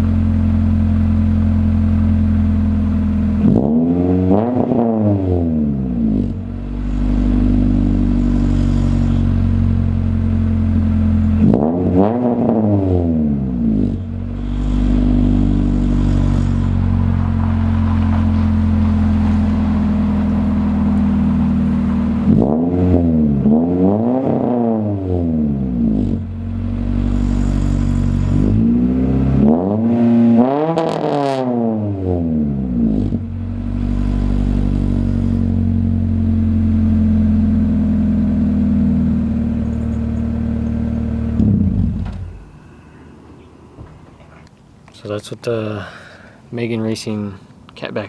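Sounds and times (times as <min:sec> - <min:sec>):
car engine idling and revving: 0:00.0 - 0:45.1.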